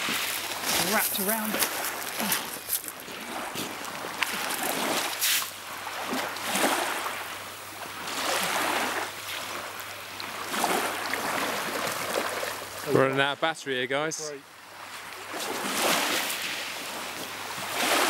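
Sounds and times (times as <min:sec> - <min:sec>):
sea water washing on shore: 0:00.0 - 0:18.0.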